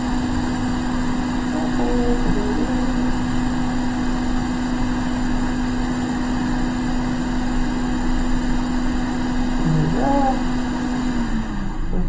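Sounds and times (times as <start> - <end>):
electric fan motor whirring: 0.0 - 12.0.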